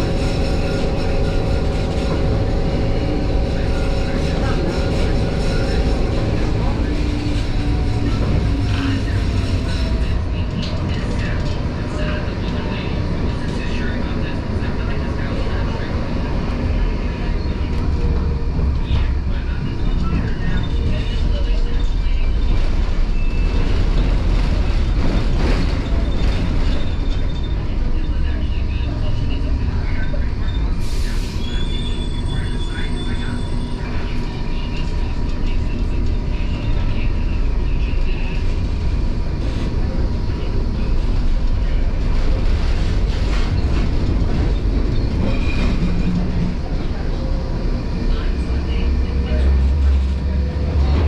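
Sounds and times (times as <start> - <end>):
tram rumbling: 0.0 - 51.0.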